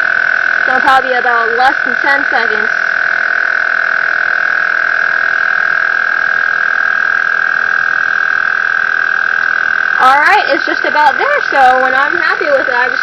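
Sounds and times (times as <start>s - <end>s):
tire compressor whining: 0.0s - 13.0s.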